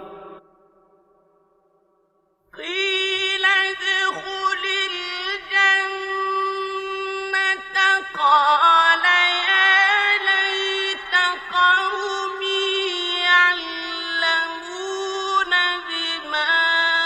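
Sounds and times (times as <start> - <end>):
person reciting melodically: 2.6 - 17.0.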